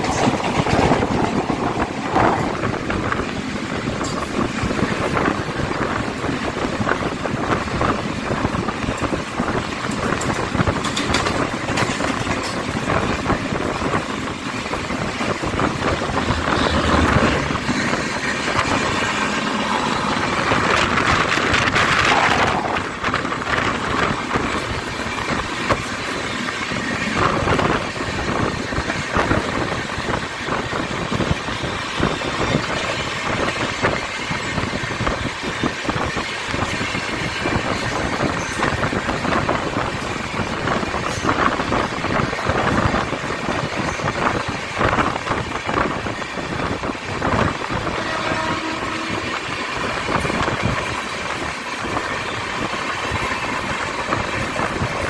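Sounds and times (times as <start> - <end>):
rail clicks: 0.0 - 55.0
train wheels rushing on rail: 0.0 - 55.0
wind rushing: 0.0 - 55.0.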